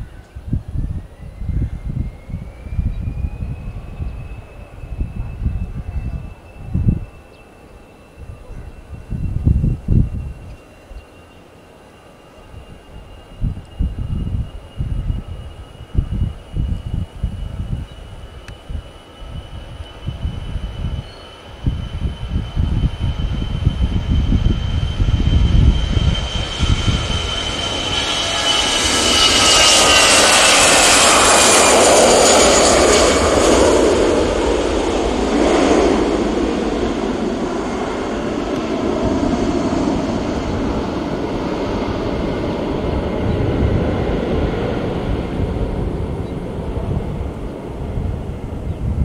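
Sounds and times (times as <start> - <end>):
jet engines at takeoff: 0.0 - 49.0.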